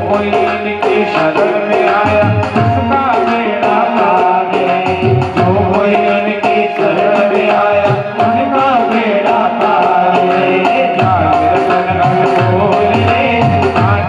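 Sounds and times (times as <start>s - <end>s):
tabla drumming: 0.0s - 14.0s.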